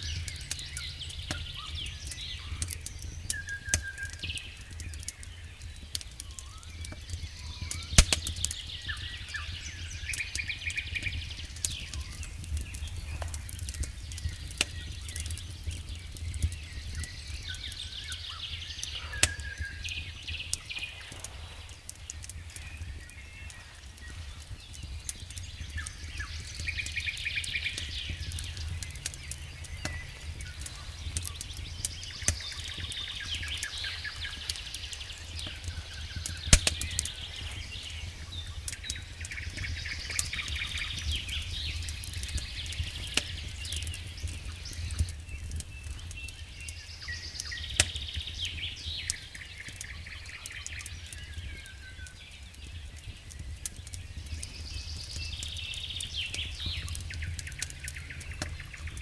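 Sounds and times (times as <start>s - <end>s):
campfire crackling: 0.0s - 59.0s
songbird chirping: 0.0s - 59.0s.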